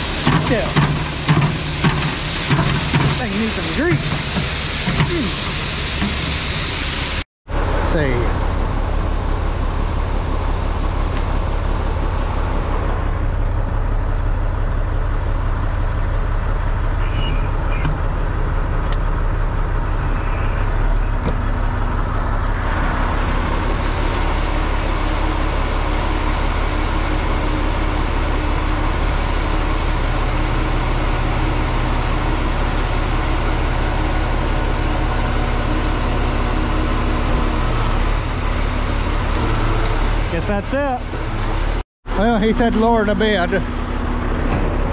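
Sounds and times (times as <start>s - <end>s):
diesel truck engine running: 0.0s - 44.9s.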